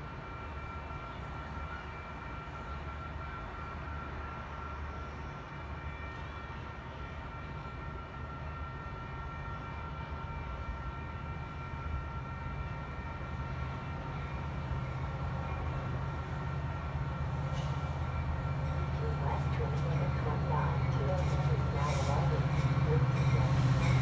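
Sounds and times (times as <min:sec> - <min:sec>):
distant diesel train rumbling: 0:00.0 - 0:24.0.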